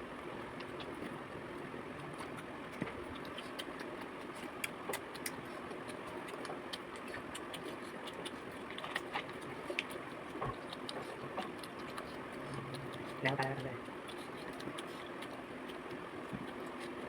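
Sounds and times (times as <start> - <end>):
chewing crunches and clicks: 0.4 - 1.3, 1.9 - 17.0.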